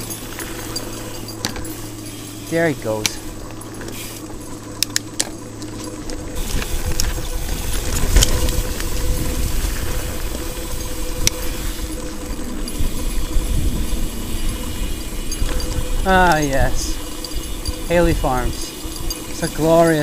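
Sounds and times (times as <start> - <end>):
bike frame rattling: 0.0 - 20.0
low rumble: 2.7 - 19.4.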